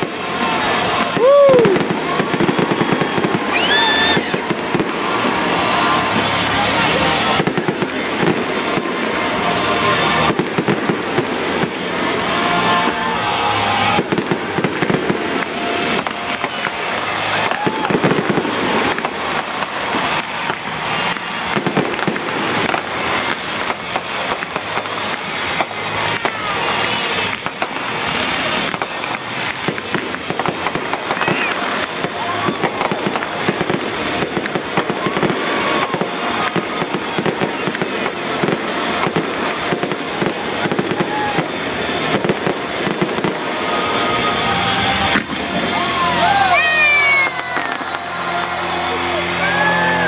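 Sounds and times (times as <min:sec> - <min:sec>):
fireworks popping and crackling: 0:00.0 - 0:50.0
music playing: 0:00.0 - 0:50.0.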